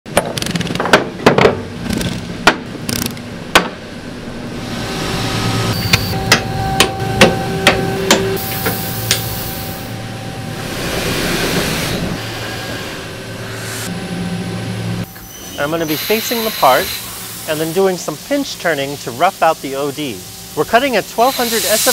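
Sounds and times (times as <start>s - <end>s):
machine hum: 0.1s - 21.9s.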